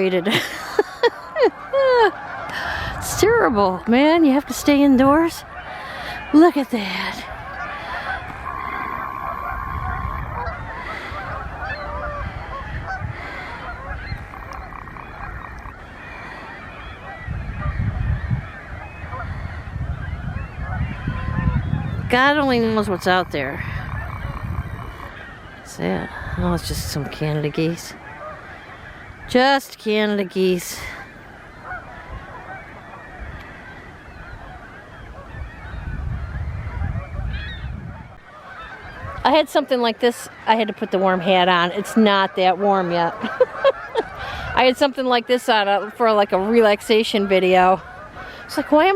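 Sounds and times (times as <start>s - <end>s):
geese honking: 0.0s - 48.9s.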